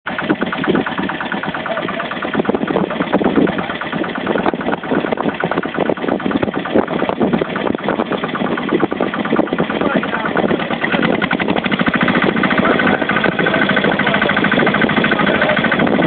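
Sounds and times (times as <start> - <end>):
tractor engine pulsing: 0.1 - 16.0.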